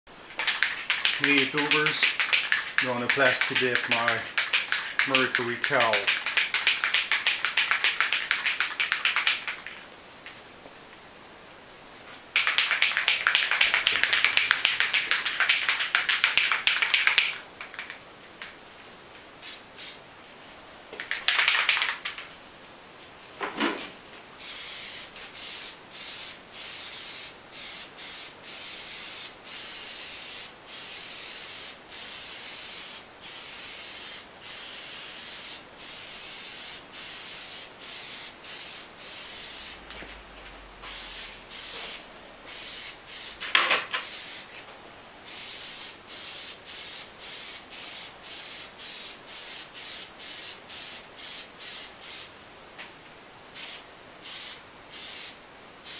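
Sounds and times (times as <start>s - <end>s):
aerosol can spraying: 0.4s - 9.8s, 12.4s - 18.0s, 21.0s - 22.2s, 24.4s - 39.9s, 40.8s - 44.5s, 45.3s - 52.3s, 53.6s - 55.9s.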